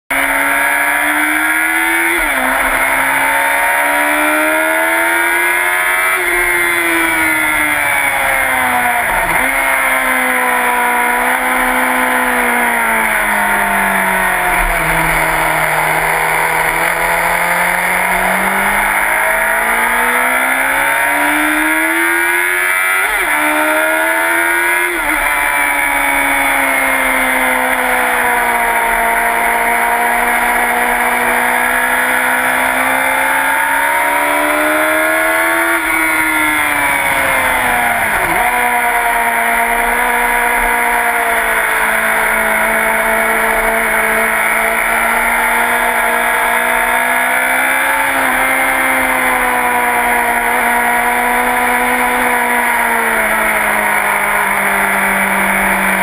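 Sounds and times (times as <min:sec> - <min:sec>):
motorcycle engine at speed: 0:00.0 - 0:56.0.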